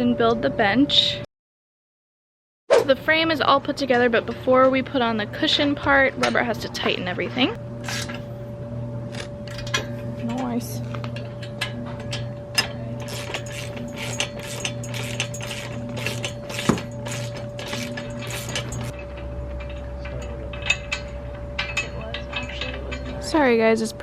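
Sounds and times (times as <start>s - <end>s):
steady low hum: 2.8s - 24.0s.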